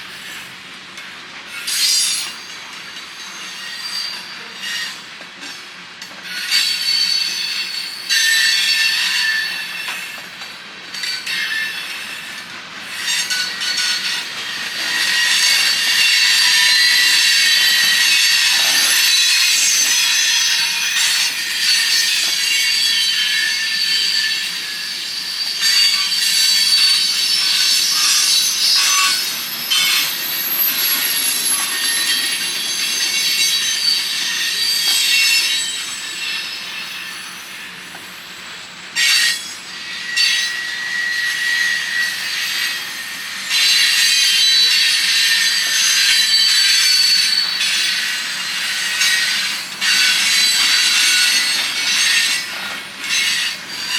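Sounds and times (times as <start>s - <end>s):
train wheels squealing on rails: 0.0s - 53.9s.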